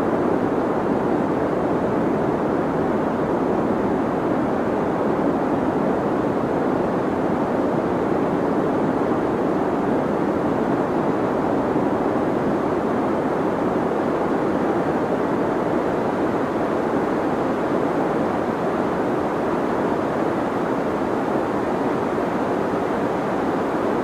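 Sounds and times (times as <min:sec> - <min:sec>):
deep white noise hiss: 0:00.0 - 0:24.0.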